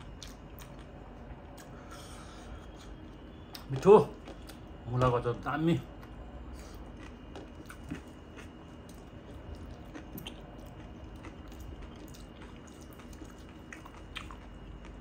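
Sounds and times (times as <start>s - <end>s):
chewing with wet mouth clicks: 0.0s - 1.8s, 2.7s - 4.8s, 6.0s - 15.0s.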